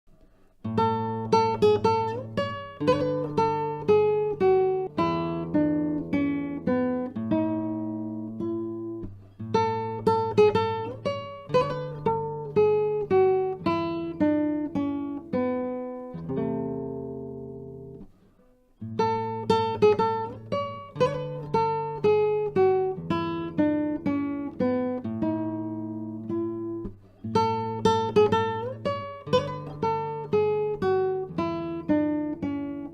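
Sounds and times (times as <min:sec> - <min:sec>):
solo guitar dance piece: 0:00.1 - 0:32.9.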